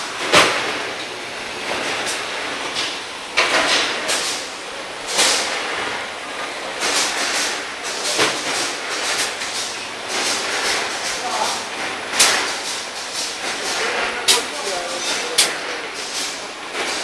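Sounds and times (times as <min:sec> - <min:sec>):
machine steady mechanical noise: 0:00.0 - 0:17.0
sharp hissy machine clacks: 0:01.8 - 0:17.0.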